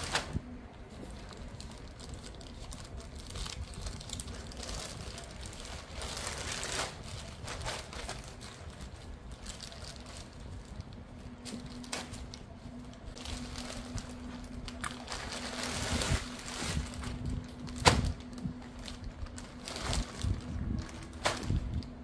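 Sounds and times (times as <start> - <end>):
plastic bag rustling and crinkling: 0.0 - 22.0
steady low hum: 0.0 - 22.0.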